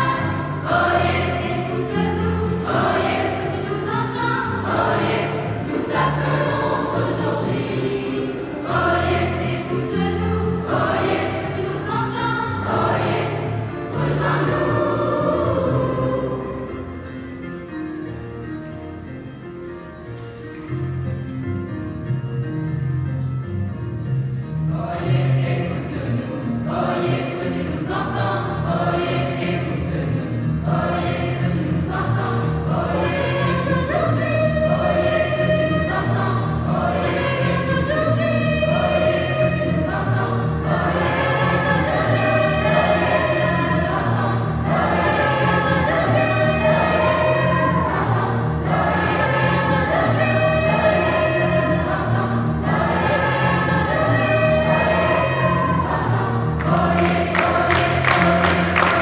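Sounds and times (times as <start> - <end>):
youth choir singing in parts: 0.0 - 16.9, 24.7 - 59.0.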